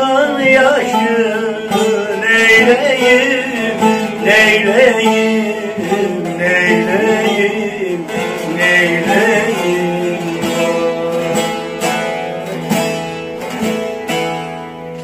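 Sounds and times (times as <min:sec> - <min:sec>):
person singing: 0:00.0 - 0:12.6
long-necked lute strumming: 0:00.0 - 0:15.0.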